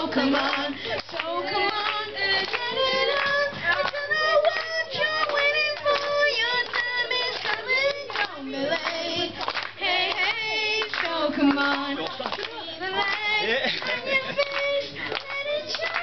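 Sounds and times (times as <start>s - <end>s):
girl singing into microphone: 0.0s - 16.0s
hand clapping: 0.4s - 16.0s.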